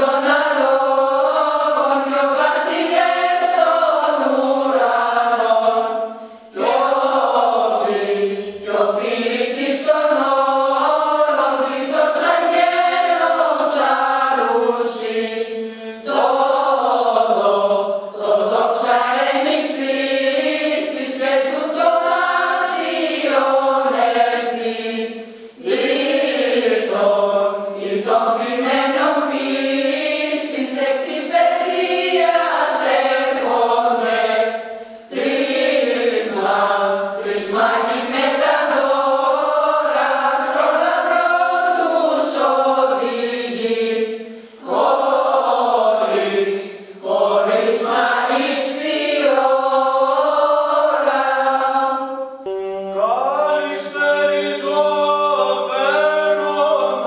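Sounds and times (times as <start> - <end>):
women's choir singing unaccompanied: 0.0 - 57.0.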